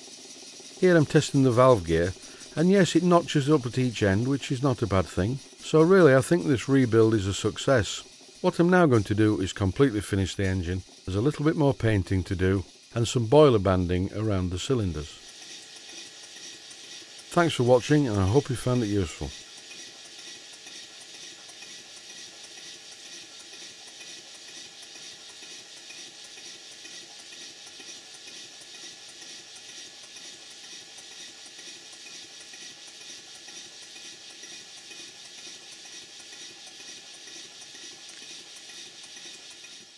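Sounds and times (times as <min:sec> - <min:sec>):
steam hiss: 0:00.0 - 0:39.9
steam engine clattering: 0:00.2 - 0:39.9.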